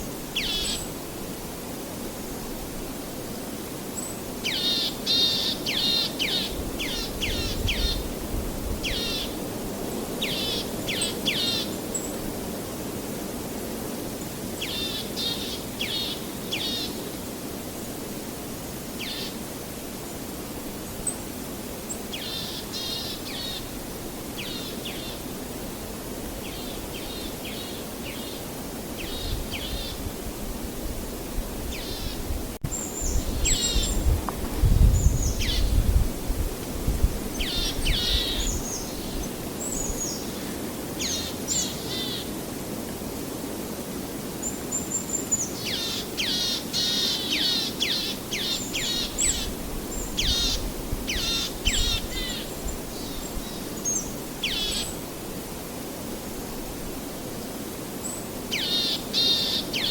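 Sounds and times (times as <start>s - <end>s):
outdoor noise: 0.0s - 59.9s.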